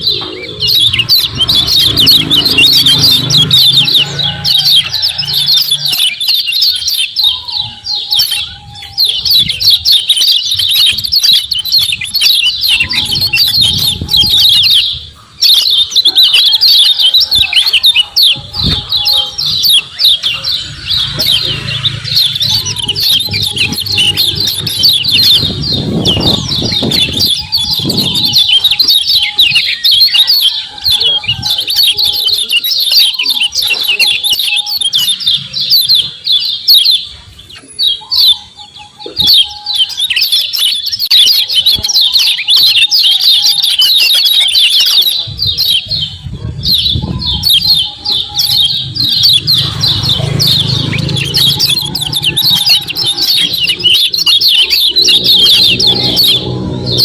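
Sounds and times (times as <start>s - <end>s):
birds chattering high chirps: 0.0s - 57.0s.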